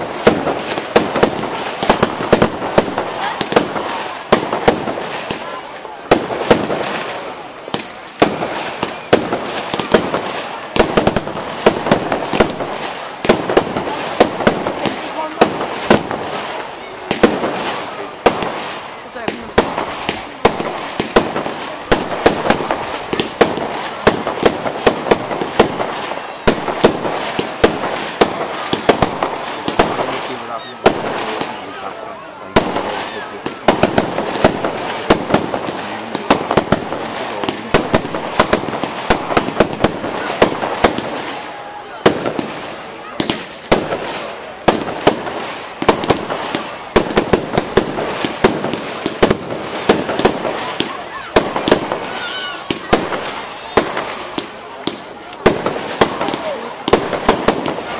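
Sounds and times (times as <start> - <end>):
fireworks bangs: 0.0 - 57.9
fireworks crackle: 0.0 - 57.9.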